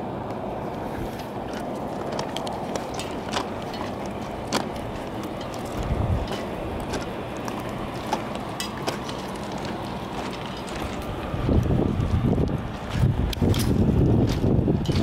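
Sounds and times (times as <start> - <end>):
steady low rumbling: 0.0 - 15.0
footsteps crunching on ballast: 0.7 - 15.0.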